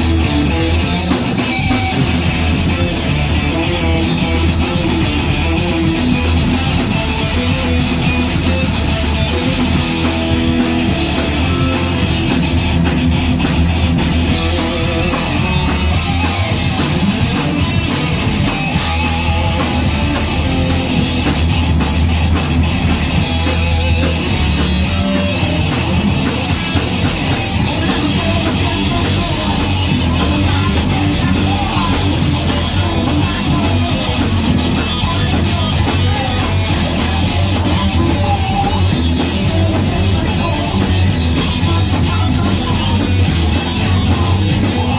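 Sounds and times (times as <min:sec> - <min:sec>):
bass guitar: 0:00.0 - 0:44.9
distorted electric guitars: 0:00.0 - 0:44.9
fast drumming: 0:00.0 - 0:44.9.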